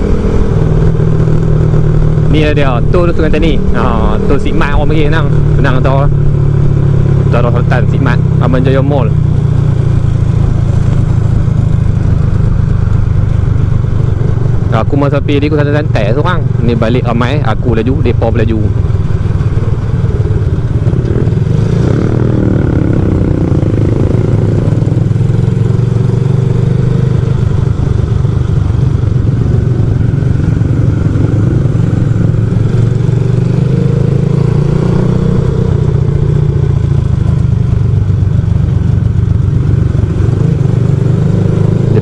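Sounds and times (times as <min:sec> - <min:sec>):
moped engine running: 0:00.0 - 0:42.0.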